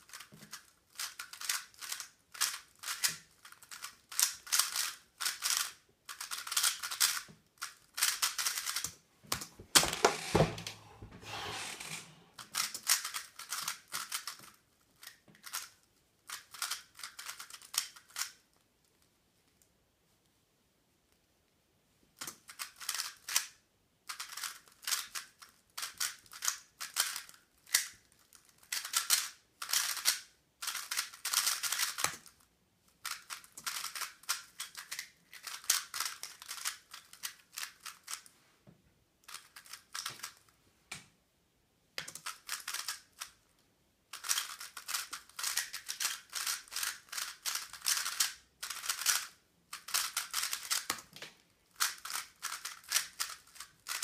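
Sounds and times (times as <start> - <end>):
puzzle cube plastic clicking: 0.1 - 10.8, 11.5 - 18.4, 22.2 - 23.5, 24.1 - 32.4, 33.0 - 38.3, 39.3 - 40.4, 42.0 - 43.4, 44.1 - 54.0.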